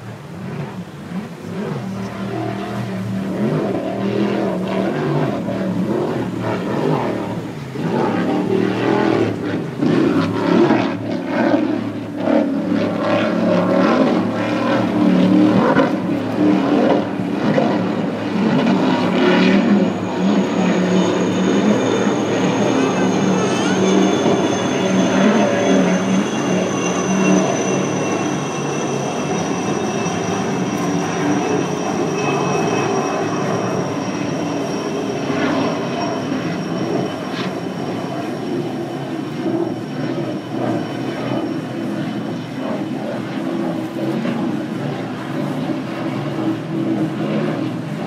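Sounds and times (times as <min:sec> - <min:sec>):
speedboat engines running: 0:00.0 - 0:48.0
thin high whine: 0:00.0 - 0:48.0.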